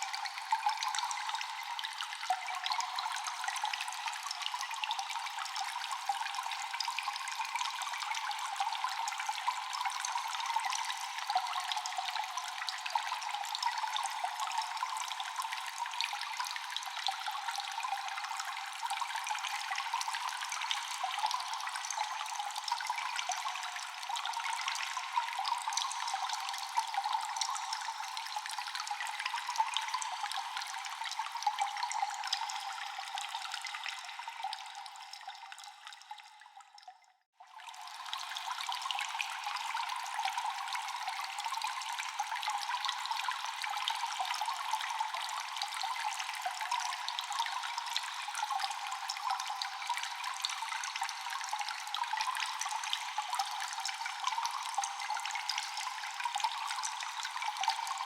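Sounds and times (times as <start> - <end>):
trickle of running water: 0.0 - 58.0
water dripping with echo: 0.0 - 58.0.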